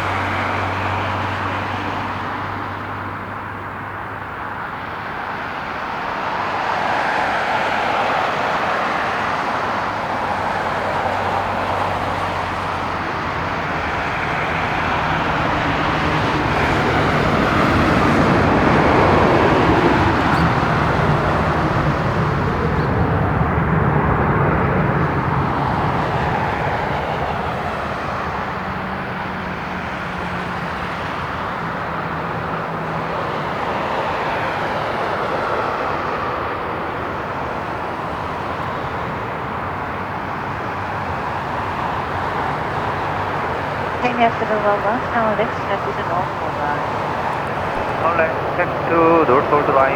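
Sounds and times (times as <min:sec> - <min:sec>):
jet engines roaring: 0:06.1 - 0:49.9.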